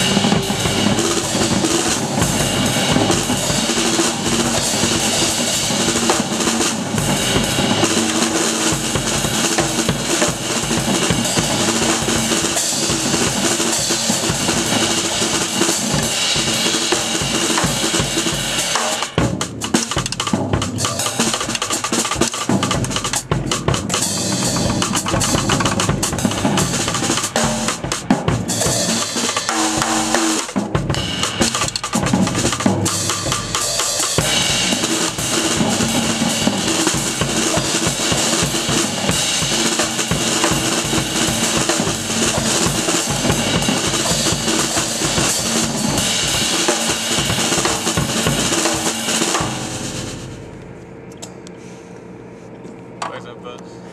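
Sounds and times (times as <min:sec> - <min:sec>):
drums played with sticks: 0:00.0 - 0:50.4
ride and hi-hat cymbals: 0:00.0 - 0:50.4.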